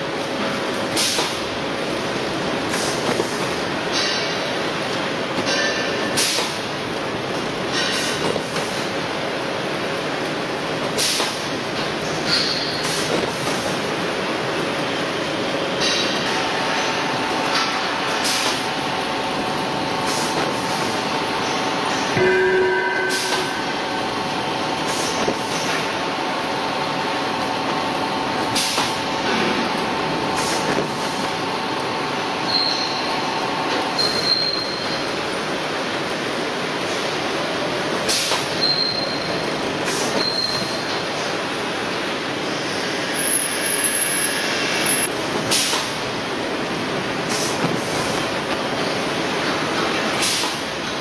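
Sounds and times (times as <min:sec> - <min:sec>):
machinery running steadily: 0:00.0 - 0:51.0.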